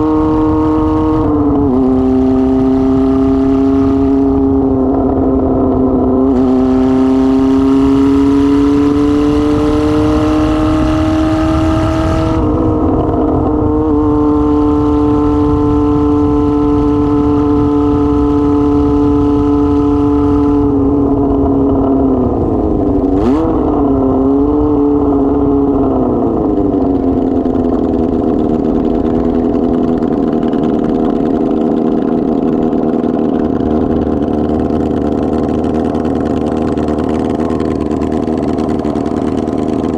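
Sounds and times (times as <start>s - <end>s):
motorcycle engine without muffler: 0.0s - 39.9s.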